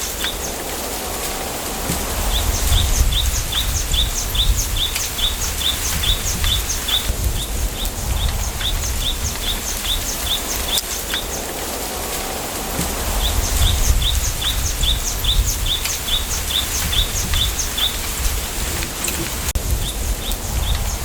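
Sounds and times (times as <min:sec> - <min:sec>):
low wind rumble: 0:00.0 - 0:21.0
small bird chirping: 0:02.2 - 0:11.5, 0:13.1 - 0:21.0.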